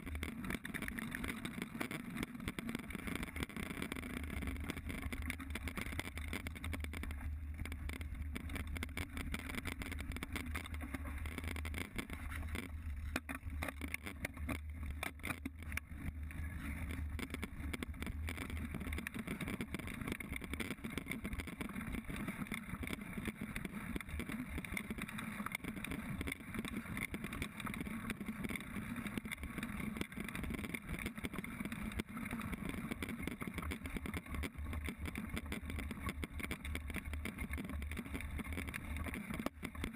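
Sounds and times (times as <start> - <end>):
bike rattling over bumps: 0.0 - 39.9
wind and tyre noise: 0.0 - 39.9.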